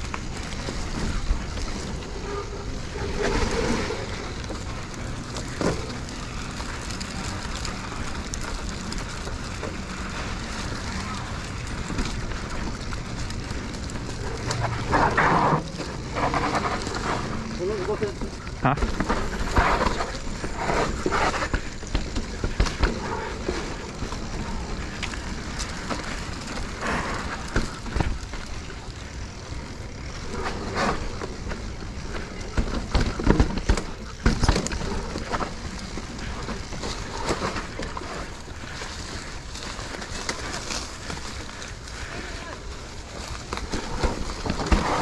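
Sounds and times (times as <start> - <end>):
bike chain and frame rattling: 0.0 - 45.0
tyre noise on dirt trail: 0.0 - 45.0.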